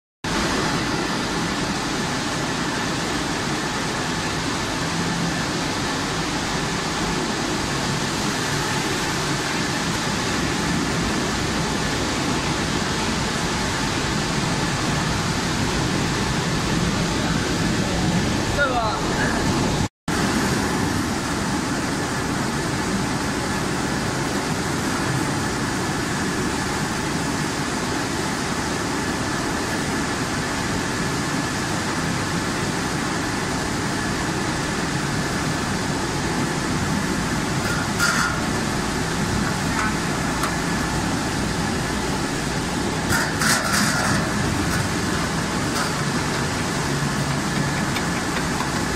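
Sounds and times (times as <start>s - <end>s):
factory machinery running: 0.3s - 48.9s.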